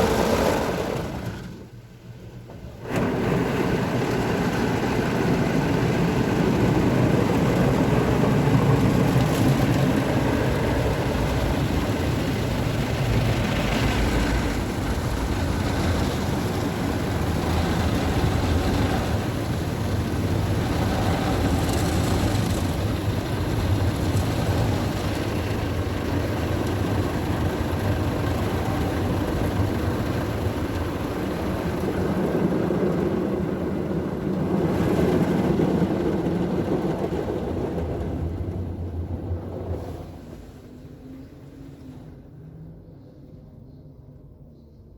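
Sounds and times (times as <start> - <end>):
car wash machine running: 0.0 - 40.6.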